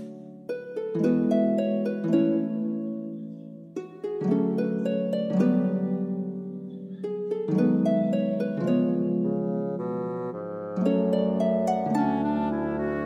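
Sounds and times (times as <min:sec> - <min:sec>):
plucked notes over held chords: 0:00.0 - 0:13.0.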